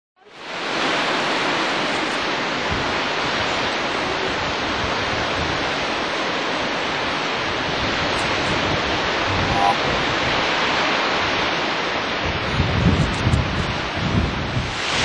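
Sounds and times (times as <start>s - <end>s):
rushing water: 0.2s - 15.0s.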